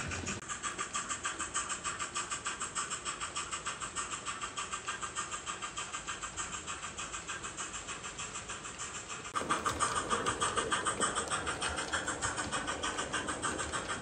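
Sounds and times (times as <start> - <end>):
model train steam chuffing: 0.0 - 14.0.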